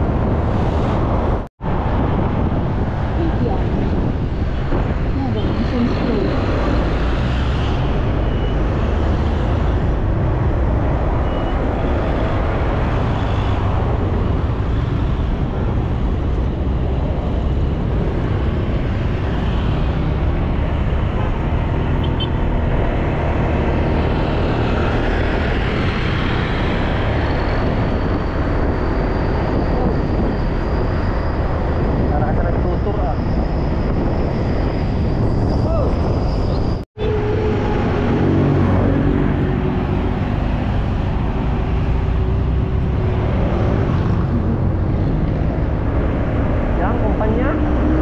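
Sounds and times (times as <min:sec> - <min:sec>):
vehicle road and engine noise: 0:00.0 - 0:48.0.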